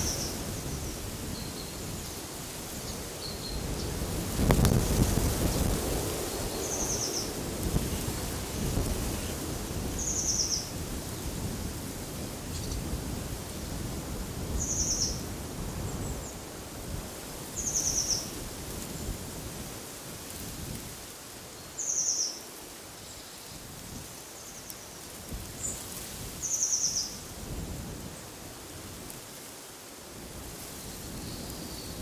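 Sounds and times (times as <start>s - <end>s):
wind: 0.0s - 32.0s.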